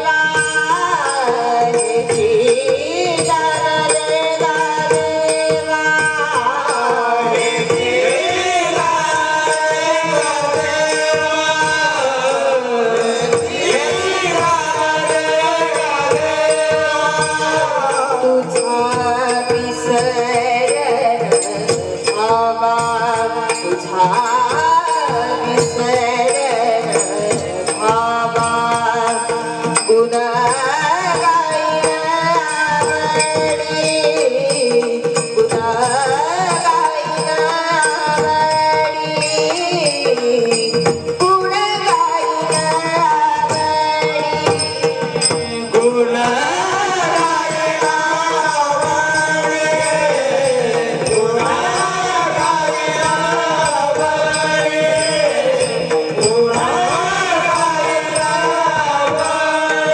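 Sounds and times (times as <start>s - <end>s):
harmonium drone: 0.0s - 59.9s
tabla beat: 0.0s - 59.9s.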